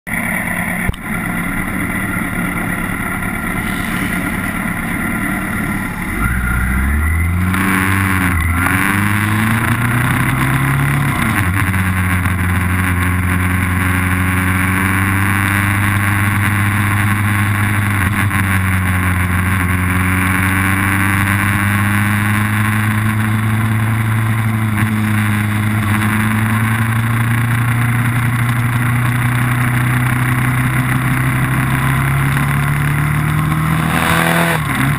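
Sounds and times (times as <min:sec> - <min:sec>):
race car engine revving: 0:00.8 - 0:27.9, 0:29.7 - 0:34.9.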